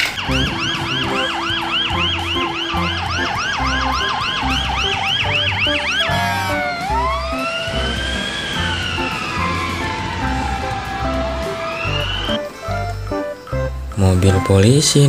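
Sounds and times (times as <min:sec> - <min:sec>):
fire truck siren: 0:00.0 - 0:13.6
background music with low beat: 0:00.0 - 0:14.8.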